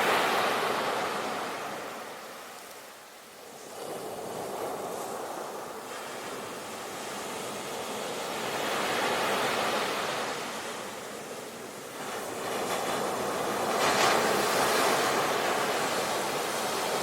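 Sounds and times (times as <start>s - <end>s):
sea waves breaking on shore: 0.0s - 2.5s, 3.5s - 17.0s.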